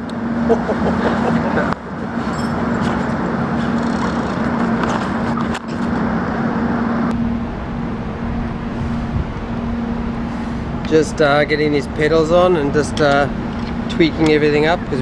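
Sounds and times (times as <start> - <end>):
road traffic engine hum: 0.0 - 15.0.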